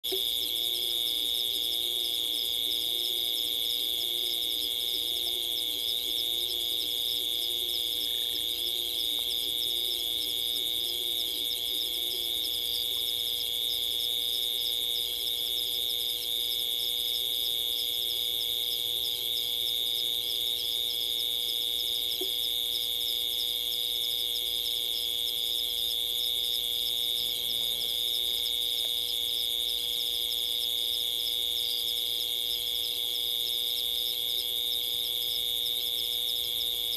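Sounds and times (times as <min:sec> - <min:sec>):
fast pulsing insect calls: 0:00.1 - 0:36.9
insects trilling: 0:00.1 - 0:36.9.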